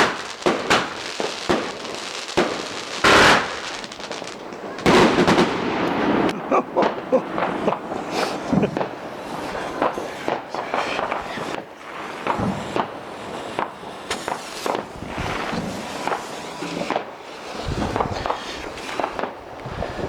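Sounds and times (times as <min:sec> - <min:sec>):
steady hiss: 0:00.0 - 0:06.3, 0:07.7 - 0:20.0
fireworks bangs and cracks: 0:00.0 - 0:20.0.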